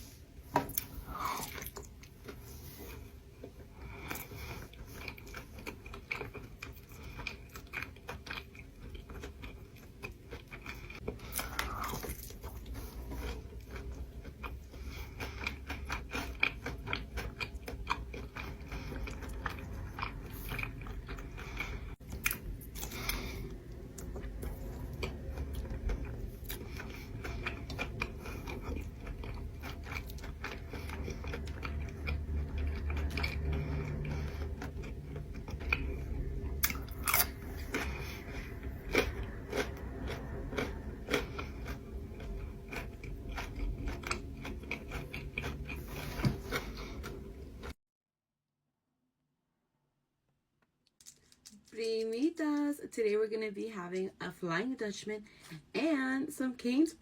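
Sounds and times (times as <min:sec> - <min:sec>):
crunchy chewing: 0:00.7 - 0:47.8.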